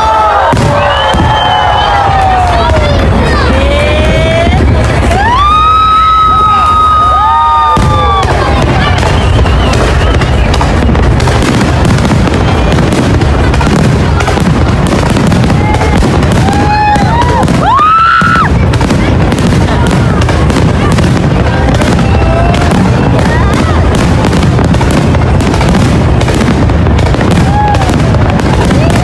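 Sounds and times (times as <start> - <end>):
fireworks booming and crackling: 0.0 - 29.0
fireworks whistling: 0.0 - 29.0.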